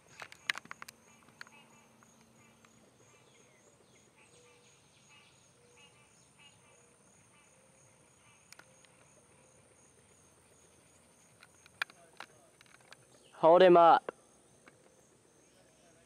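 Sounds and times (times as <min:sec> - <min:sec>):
faint insects chirping: 0:00.0 - 0:16.0.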